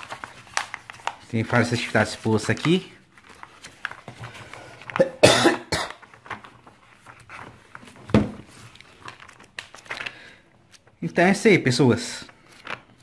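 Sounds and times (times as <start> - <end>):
paper pages flipping and rustling: 0.0 - 5.0, 6.0 - 11.0, 12.2 - 13.0.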